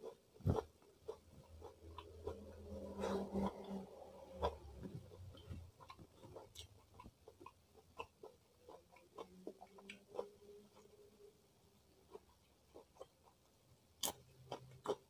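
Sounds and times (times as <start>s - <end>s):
chewing with mouth clicks: 0.0s - 11.2s, 12.0s - 15.0s.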